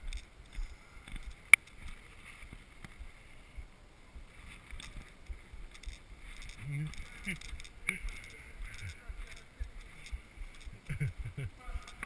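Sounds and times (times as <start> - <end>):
camera handling rumble: 0.0 - 3.1, 4.4 - 12.0.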